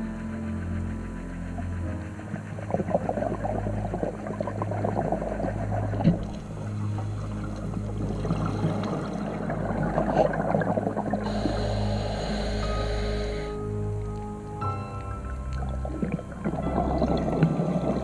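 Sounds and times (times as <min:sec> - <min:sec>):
steady low hum: 0:00.0 - 0:18.0
regulator bubbles gurgling underwater: 0:00.8 - 0:14.5, 0:15.2 - 0:18.0.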